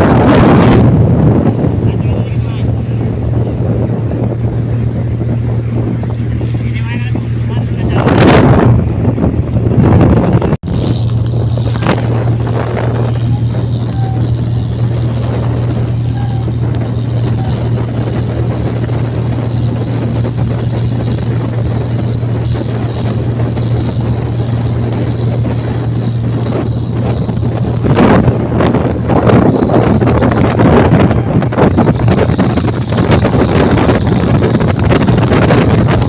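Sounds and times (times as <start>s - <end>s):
boat diesel engine drone: 0.0s - 36.0s
rushing water: 0.0s - 36.0s
wind buffeting microphone: 0.0s - 36.0s.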